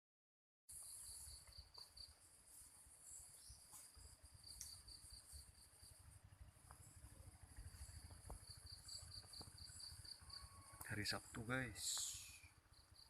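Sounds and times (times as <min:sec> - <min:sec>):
insects chirring: 0:00.7 - 0:13.0.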